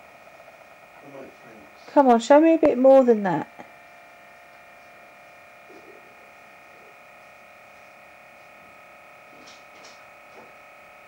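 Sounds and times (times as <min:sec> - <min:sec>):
faint high electrical whine: 0:00.0 - 0:11.0.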